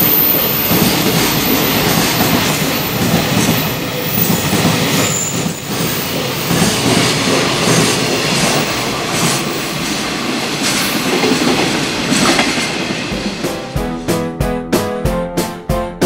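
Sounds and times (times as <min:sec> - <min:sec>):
freight train wheels rushing on rail: 0:00.0 - 0:13.8.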